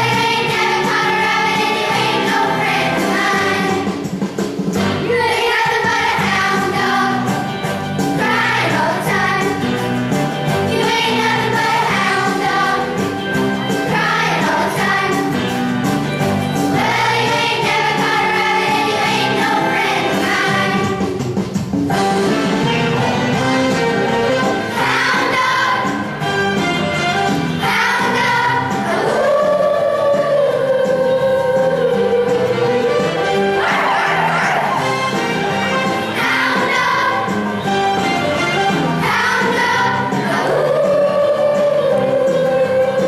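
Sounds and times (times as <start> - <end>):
children's choir singing: 0.0 - 4.2, 4.8 - 9.8, 10.6 - 15.7, 16.5 - 21.3, 24.0 - 43.0
instrumental accompaniment with beat: 0.0 - 43.0.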